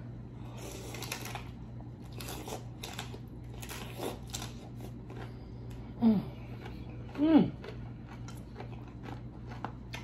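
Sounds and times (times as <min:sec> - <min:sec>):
crunchy food being chewed: 0:00.4 - 0:10.0.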